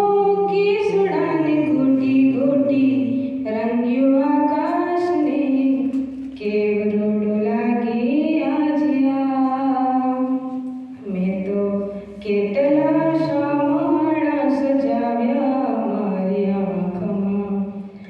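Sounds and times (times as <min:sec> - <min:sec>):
woman singing over a speaker: 0:00.0 - 0:18.0.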